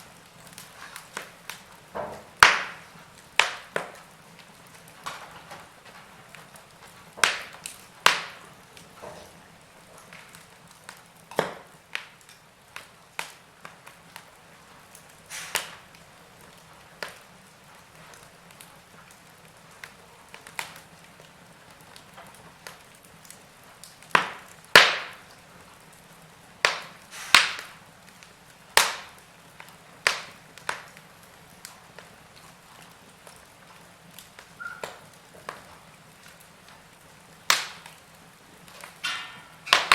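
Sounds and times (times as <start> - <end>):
fireplace logs crackling: 0.0 - 39.9.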